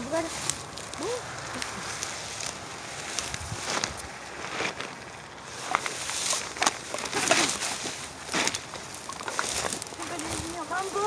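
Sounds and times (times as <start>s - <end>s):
rustling through grass: 0.0s - 11.0s
short crackles: 0.0s - 11.0s.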